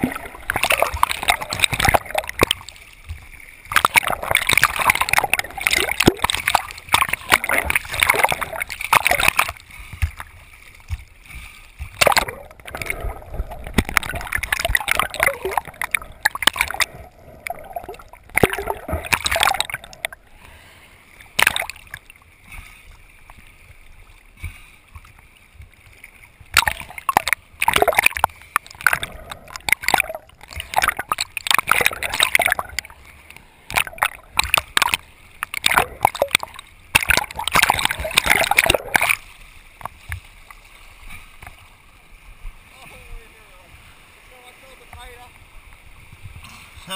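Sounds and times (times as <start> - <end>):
sea water splashing and gurgling: 0.0 - 46.9.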